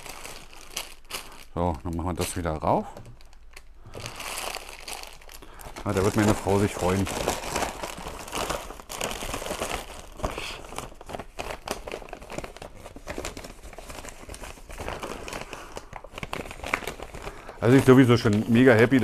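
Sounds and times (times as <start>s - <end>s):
paper bag crinkling: 0.0s - 19.0s.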